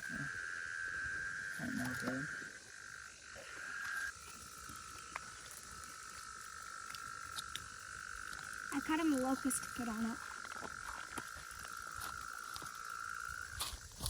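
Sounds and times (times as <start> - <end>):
chorus of frogs: 0.0 - 14.0.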